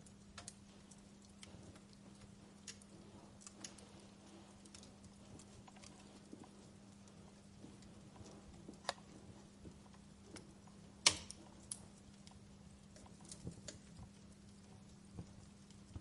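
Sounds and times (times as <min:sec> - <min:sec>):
sharp pops from fire: 0:00.0 - 0:03.9, 0:04.5 - 0:16.0
campfire wood crackling: 0:00.0 - 0:16.0.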